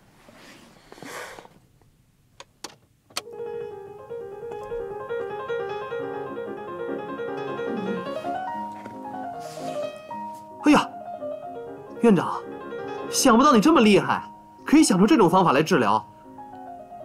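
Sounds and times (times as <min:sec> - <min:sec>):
light background music: 0:03.2 - 0:17.0.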